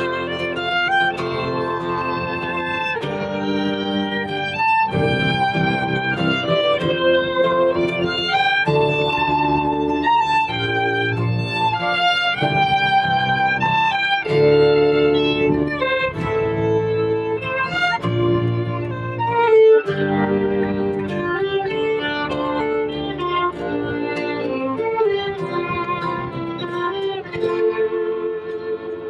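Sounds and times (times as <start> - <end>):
fiddle playing a tune: 0.0 - 29.0
guitar accompaniment: 0.0 - 29.0.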